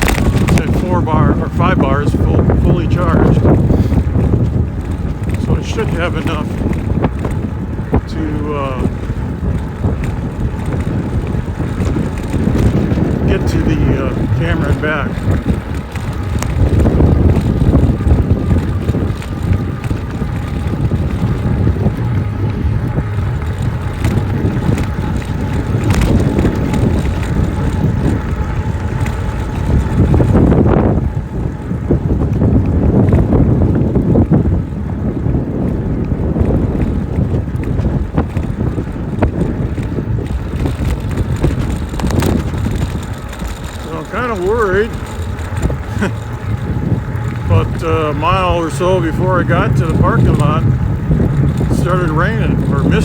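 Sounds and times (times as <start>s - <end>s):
bike tyre noise: 0.0s - 53.0s
wind buffeting microphone: 0.0s - 53.0s.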